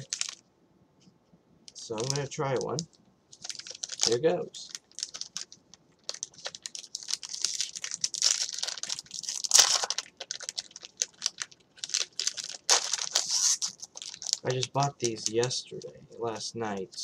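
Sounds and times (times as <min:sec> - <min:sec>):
wrapper crinkling and tearing: 0:00.0 - 0:00.4, 0:01.8 - 0:02.8, 0:03.4 - 0:15.9.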